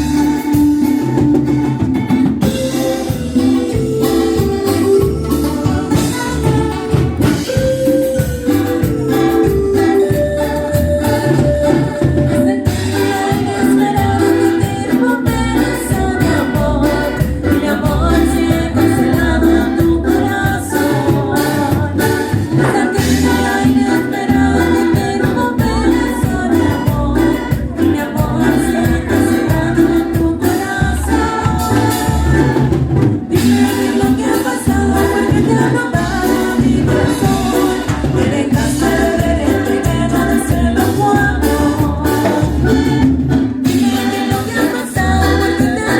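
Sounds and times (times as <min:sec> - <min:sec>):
live band playing dance music: 0:00.0 - 0:45.9.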